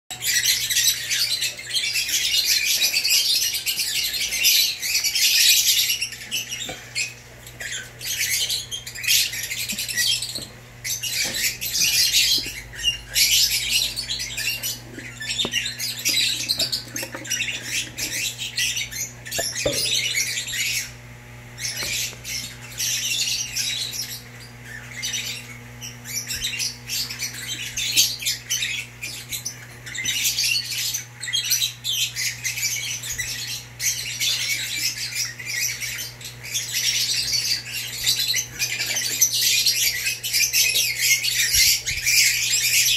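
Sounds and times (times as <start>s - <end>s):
birds chattering and screeching: 0.1s - 42.9s.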